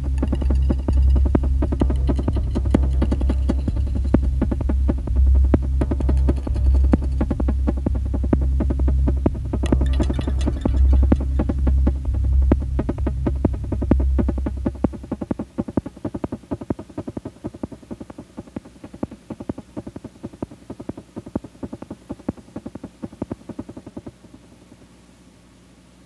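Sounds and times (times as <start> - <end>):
synthesizer pulses: 0.0 - 24.1
faint low hum and hiss: 0.0 - 26.0.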